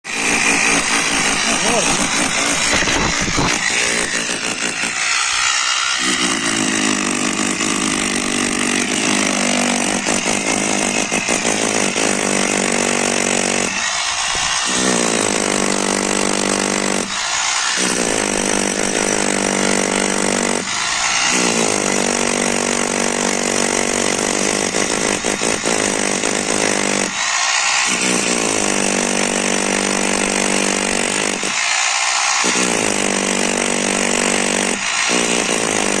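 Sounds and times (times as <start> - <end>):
motorised power tool running: 0.0 - 36.0.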